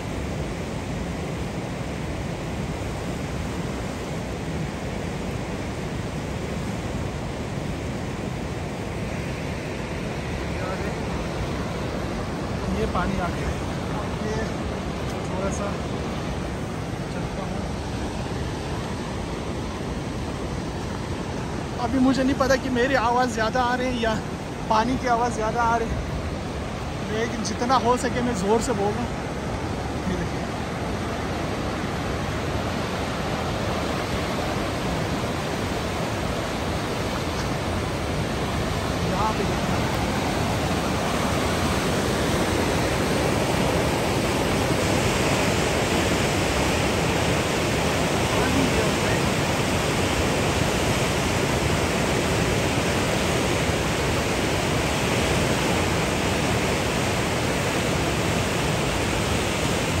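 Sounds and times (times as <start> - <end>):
river rushing over rocks: 0.0 - 60.0.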